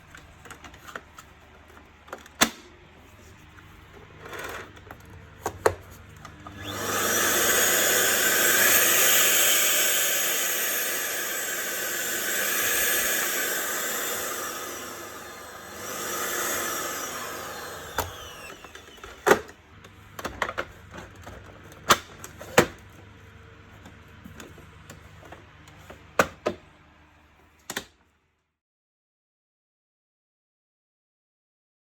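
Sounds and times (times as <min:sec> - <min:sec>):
vacuum cleaner motor running: 0:00.0 - 0:27.9.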